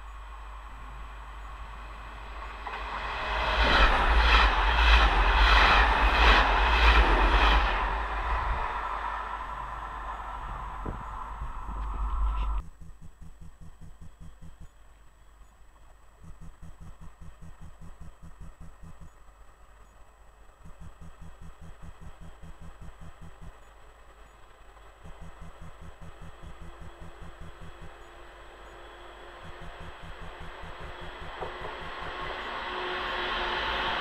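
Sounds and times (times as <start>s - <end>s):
faint hum: 0.0s - 34.0s
low rapid pulsing: 0.0s - 34.0s
approaching train rumble: 0.1s - 34.0s.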